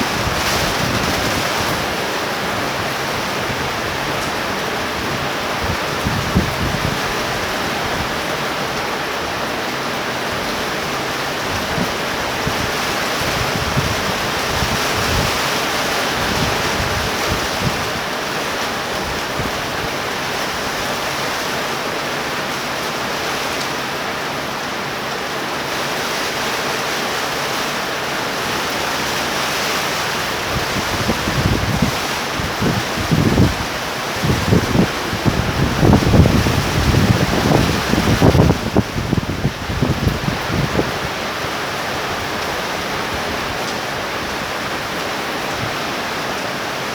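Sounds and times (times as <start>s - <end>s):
wind buffeting microphone: 0.0s - 21.1s, 28.3s - 46.2s
torrential rain pouring: 0.0s - 46.9s.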